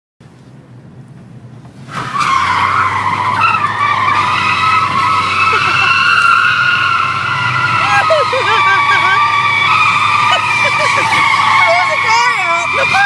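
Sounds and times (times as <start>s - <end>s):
car running: 0.2s - 13.0s
tyres squealing: 1.9s - 13.0s.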